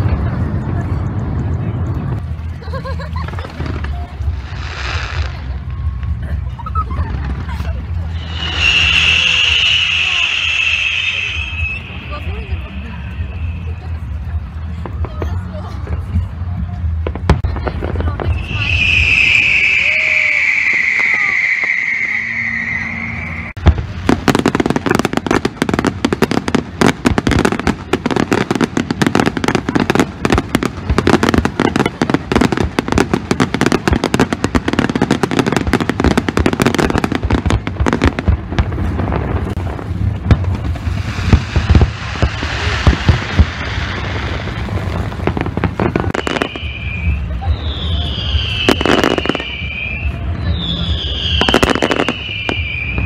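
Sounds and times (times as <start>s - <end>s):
fireworks bangs and crackling: 0.0s - 53.0s
fireworks hissing sizzle: 0.0s - 53.0s.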